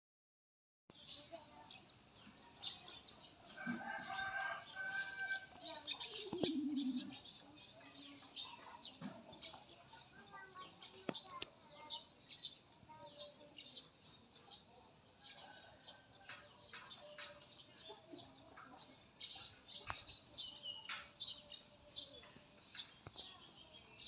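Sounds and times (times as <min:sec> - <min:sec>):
small birds chirping: 0:00.9 - 0:24.0.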